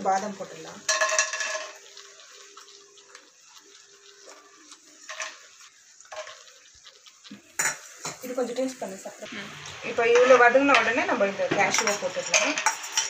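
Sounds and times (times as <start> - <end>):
almonds sizzling in pan: 0.0 - 13.0.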